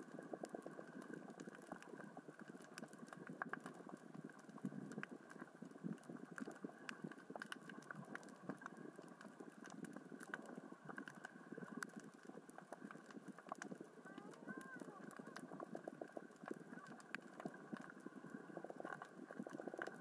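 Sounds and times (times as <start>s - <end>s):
rocks rolling underwater: 0.0s - 20.0s
underwater wash of water: 0.0s - 20.0s.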